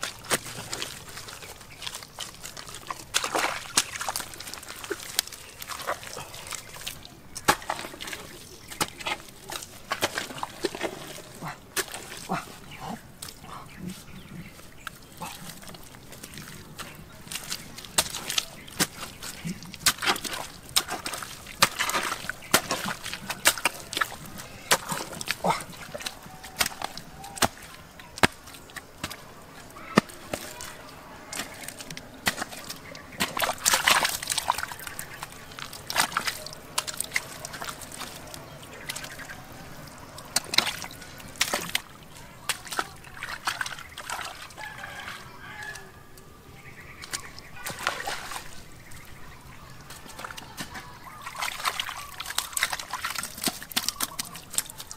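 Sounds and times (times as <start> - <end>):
hands sloshing in wet mud: 0.0 - 54.9.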